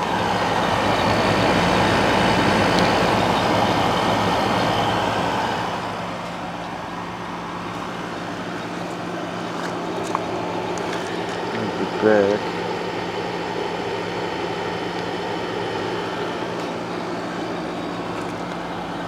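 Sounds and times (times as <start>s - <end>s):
air conditioner humming: 0.0s - 19.0s.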